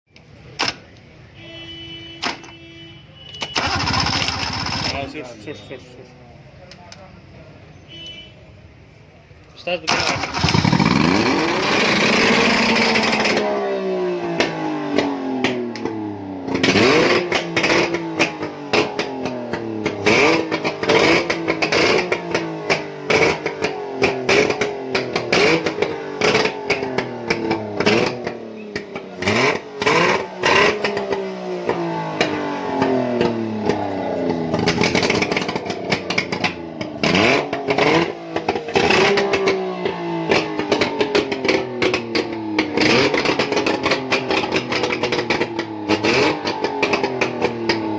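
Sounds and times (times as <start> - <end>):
engine revving: 3.6 - 5.3, 9.8 - 47.9.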